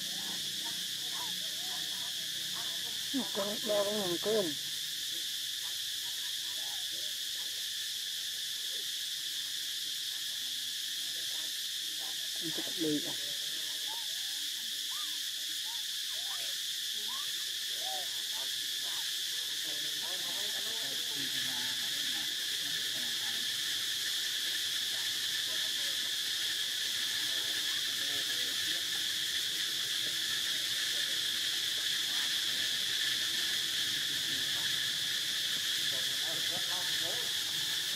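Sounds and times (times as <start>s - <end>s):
insect chorus buzzing: 0.0s - 37.9s.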